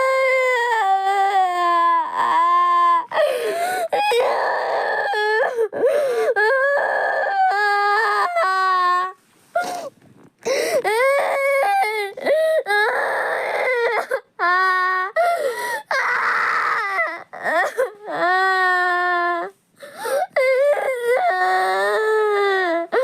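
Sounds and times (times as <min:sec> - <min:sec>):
gasping sobs: 0:00.0 - 0:23.0.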